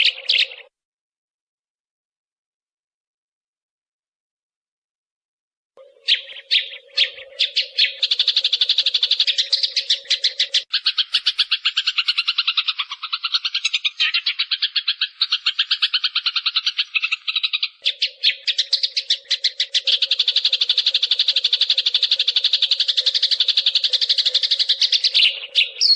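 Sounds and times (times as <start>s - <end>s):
sparrow chirps: 0.0s - 0.7s, 5.8s - 25.9s.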